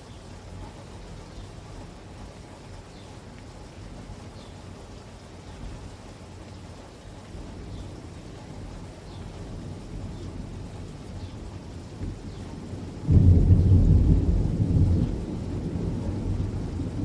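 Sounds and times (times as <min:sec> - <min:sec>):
raindrops pattering on surfaces: 0:00.0 - 0:17.0
steady rain falling: 0:00.0 - 0:17.0.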